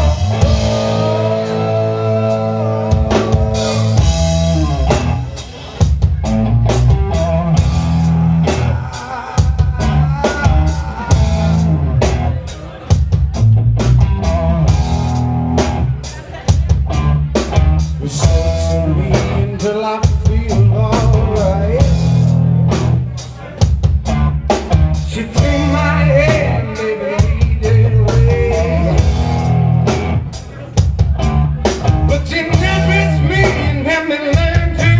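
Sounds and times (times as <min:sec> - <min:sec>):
rock band playing: 0:00.0 - 0:34.9
wavering lead guitar melody: 0:00.0 - 0:34.9.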